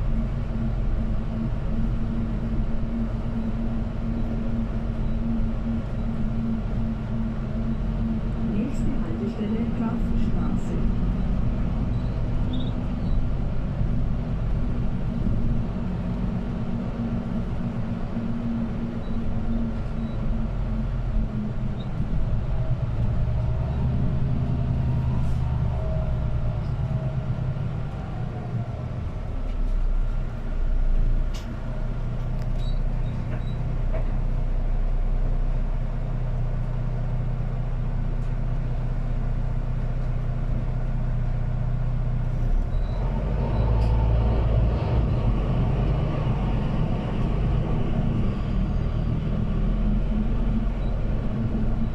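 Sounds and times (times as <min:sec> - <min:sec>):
bus engine humming: 0:00.0 - 0:51.9.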